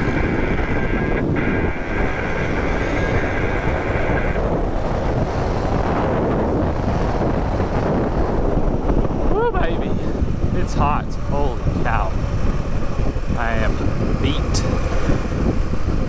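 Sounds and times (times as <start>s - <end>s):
motorcycle engine at speed: 0.0s - 16.0s
wind buffeting microphone: 0.0s - 16.0s.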